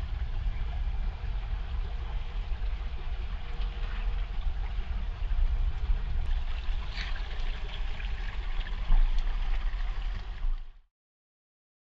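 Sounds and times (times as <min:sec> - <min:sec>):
creek water trickling over rocks: 0:00.0 - 0:10.8
steady low rumble: 0:00.0 - 0:10.8.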